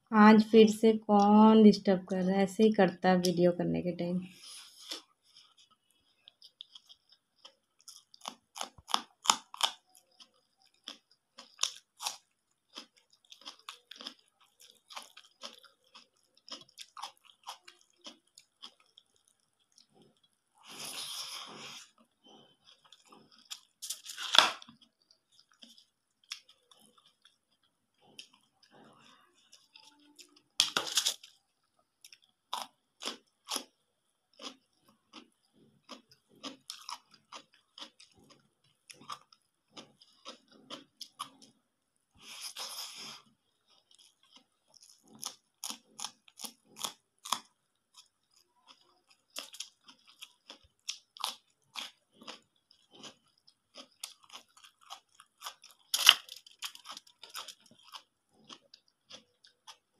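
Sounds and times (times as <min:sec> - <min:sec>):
chewing and crunching food: 0:04.3 - 0:59.9.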